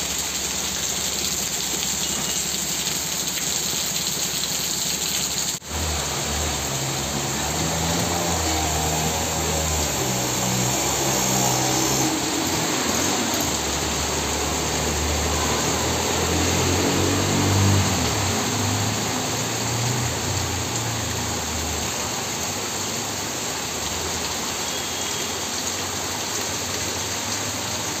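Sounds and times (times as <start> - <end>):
vehicle engines running: 0.0 - 24.6
heavy rain pouring: 0.0 - 28.0
wheels splashing through water: 0.0 - 28.0.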